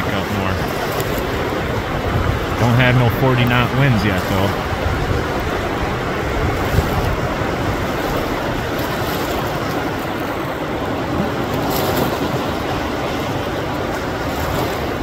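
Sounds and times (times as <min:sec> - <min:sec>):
surf breaking on shore: 0:00.0 - 0:15.0
wind buffeting microphone: 0:00.0 - 0:15.0.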